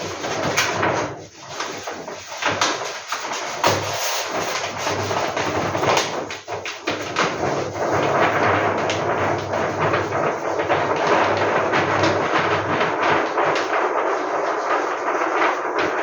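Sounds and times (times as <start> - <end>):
small knocks and thuds: 0.0 - 13.9
paper rustling and crinkling: 0.0 - 16.0.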